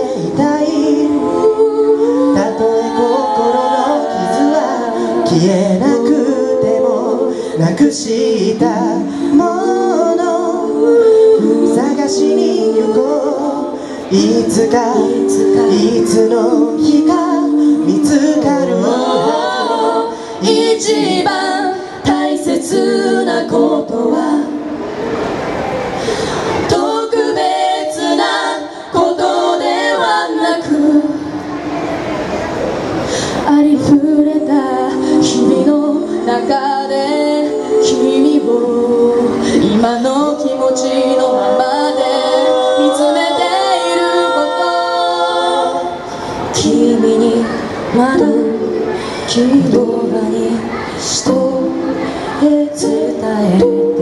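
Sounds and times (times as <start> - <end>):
a cappella group singing: 0.0 - 25.4, 26.0 - 31.5, 33.0 - 54.0.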